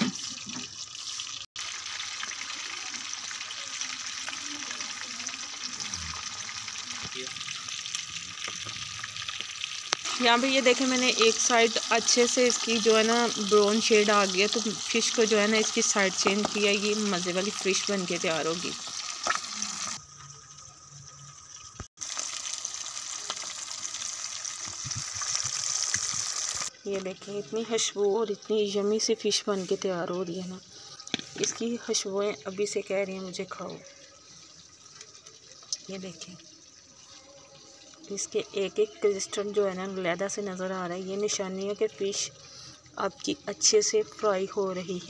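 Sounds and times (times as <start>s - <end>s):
fish deep-frying in oil: 0.0s - 45.0s.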